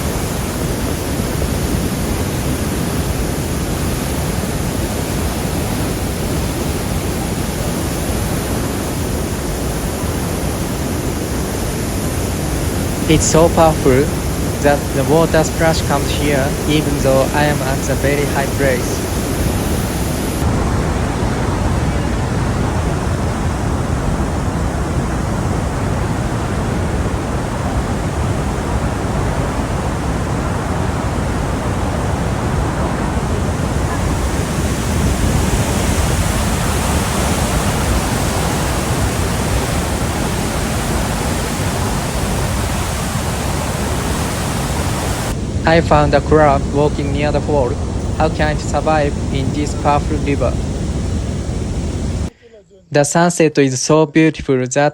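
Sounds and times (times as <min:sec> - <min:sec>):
waterfall rushing: 0:00.0 - 0:52.3.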